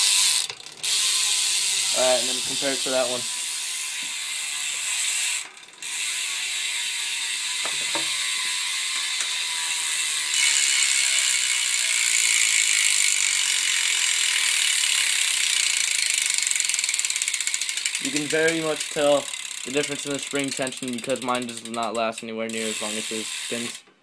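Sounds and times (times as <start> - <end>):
bicycle hub ratcheting buzz: 0.0 - 23.9.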